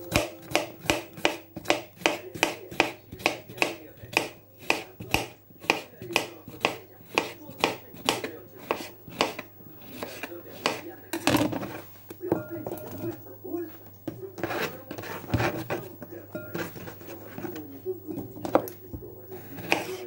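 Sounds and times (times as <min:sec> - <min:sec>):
knife chopping on cutting board: 0:00.0 - 0:13.1, 0:14.1 - 0:17.6, 0:18.2 - 0:20.0.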